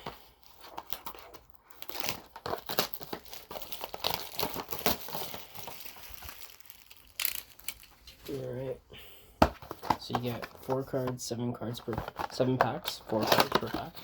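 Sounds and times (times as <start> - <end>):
plastic wrapping crinkling and tearing: 0.0 - 8.6, 9.6 - 14.0.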